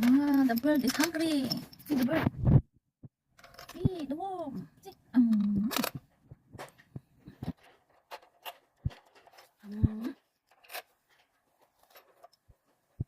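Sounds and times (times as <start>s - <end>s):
plastic toy clicking and knocking: 0.0s - 2.3s, 3.4s - 12.4s.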